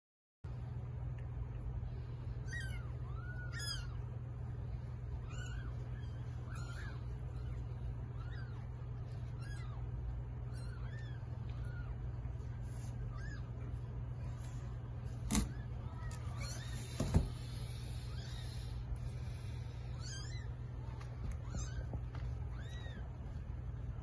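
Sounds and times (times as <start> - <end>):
steady low hum: 0.5 - 24.0.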